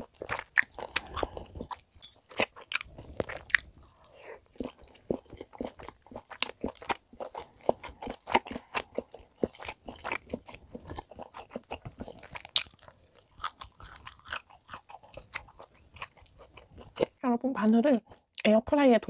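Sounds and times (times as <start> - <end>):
person chewing steak: 0.0 - 17.2.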